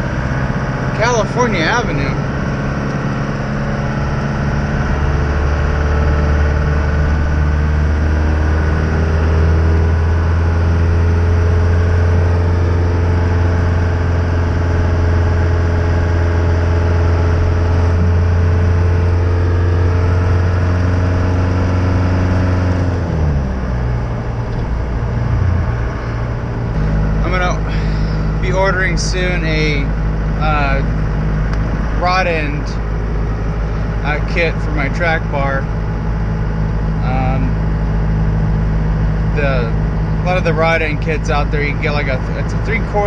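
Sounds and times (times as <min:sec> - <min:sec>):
pickup truck engine from inside cab: 0:00.0 - 0:43.0.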